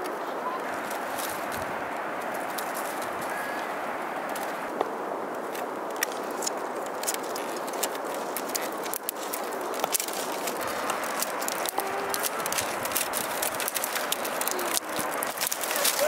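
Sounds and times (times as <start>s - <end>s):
bamboo strips clicking and rattling: 0.7s - 3.4s, 4.2s - 16.0s.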